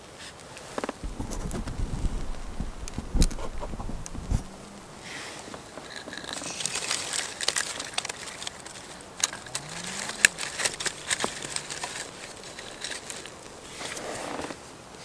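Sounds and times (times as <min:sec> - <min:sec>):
crackling with sharp snaps: 0:00.0 - 0:14.6.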